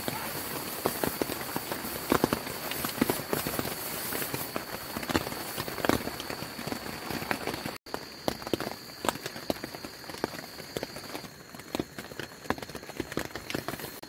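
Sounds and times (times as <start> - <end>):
rain pattering on tent fabric: 0.0 - 14.0.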